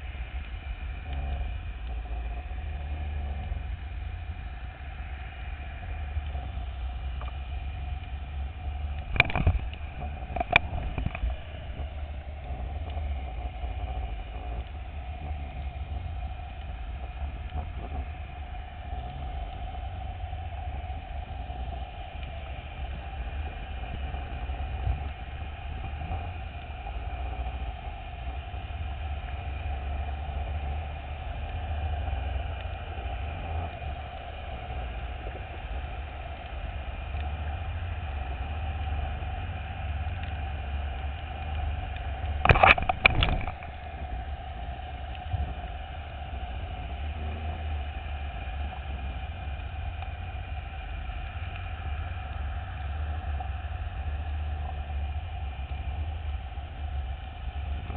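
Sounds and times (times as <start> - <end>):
underwater machinery rumble: 0.0 - 57.9.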